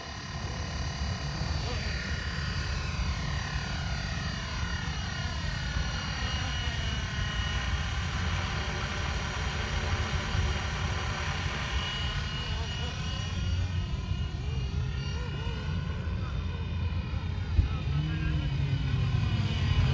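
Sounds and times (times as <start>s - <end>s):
model helicopter motor whine: 0.0s - 19.9s.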